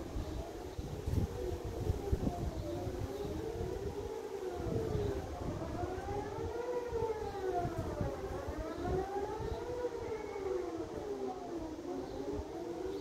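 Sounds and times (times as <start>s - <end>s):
distant warning siren wailing: 0.0s - 13.0s.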